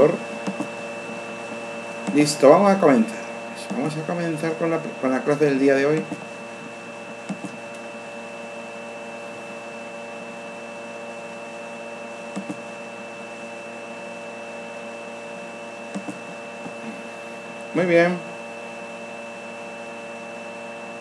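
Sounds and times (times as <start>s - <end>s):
high-pitched whine: 0.0s - 18.9s
background hum and hiss: 0.0s - 21.0s.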